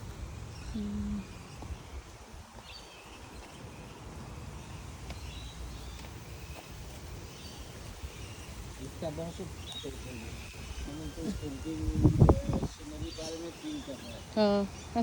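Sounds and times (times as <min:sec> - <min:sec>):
faint bird chirps: 0:00.4 - 0:15.0.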